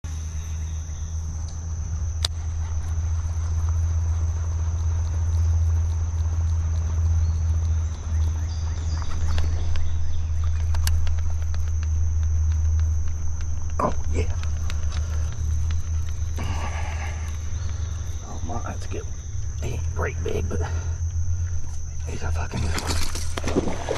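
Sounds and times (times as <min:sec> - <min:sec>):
high insect drone: 0:00.0 - 0:23.9
low rumble: 0:00.0 - 0:23.9.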